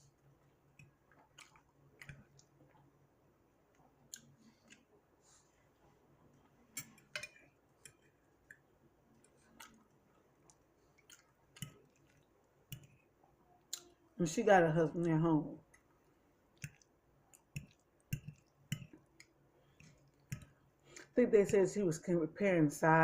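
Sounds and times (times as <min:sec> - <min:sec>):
soft chewing and mouth clicks: 0:00.0 - 0:14.2, 0:15.6 - 0:21.6.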